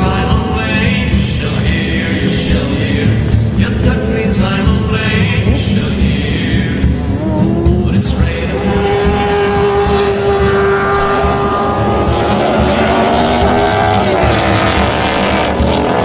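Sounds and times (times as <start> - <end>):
race car engine running hard: 0.0 - 16.0.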